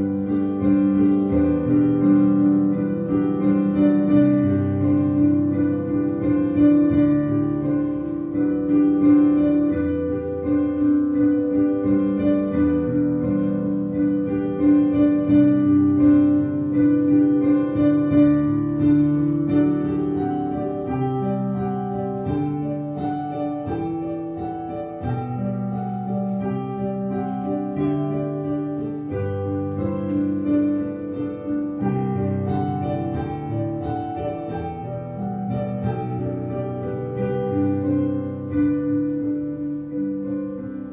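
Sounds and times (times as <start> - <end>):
slow keyboard music: 0.0 - 40.9.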